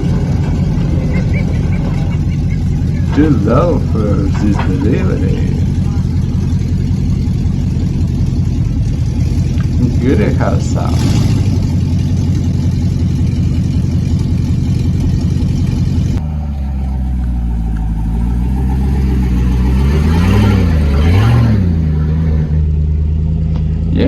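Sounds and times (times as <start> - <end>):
truck engine rumbling: 0.0 - 24.0
truck idling and revving: 0.0 - 24.0.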